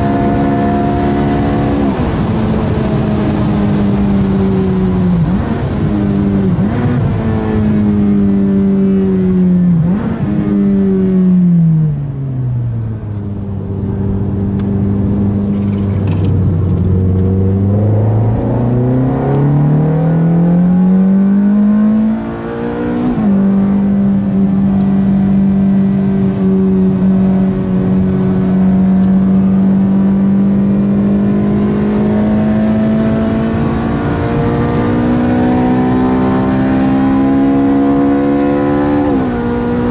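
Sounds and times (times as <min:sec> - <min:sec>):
sports car engine revving: 0:00.0 - 0:39.9.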